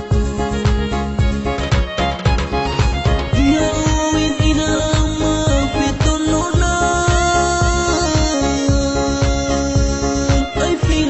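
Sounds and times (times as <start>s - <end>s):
pop song with drum and bass beat: 0.0s - 11.0s.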